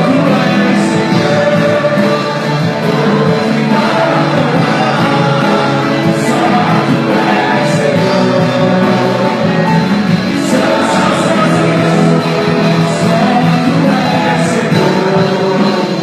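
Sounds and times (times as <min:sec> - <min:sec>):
band playing worship music: 0:00.0 - 0:16.0
singing voices: 0:00.0 - 0:16.0.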